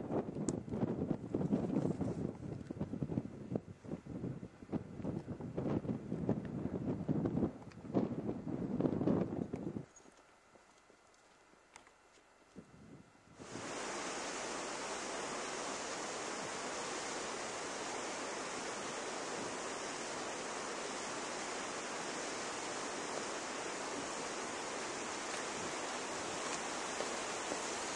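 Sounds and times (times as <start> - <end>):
steady recording hiss: 0.0 - 27.9.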